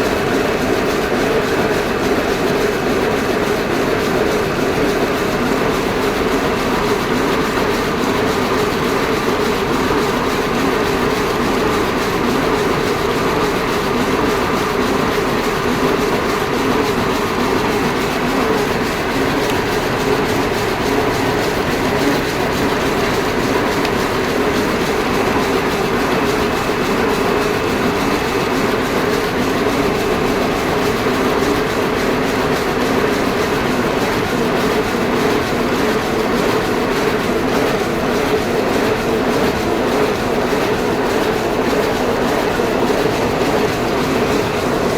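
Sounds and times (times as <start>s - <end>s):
machine running with fast clatter: 0.0s - 44.9s.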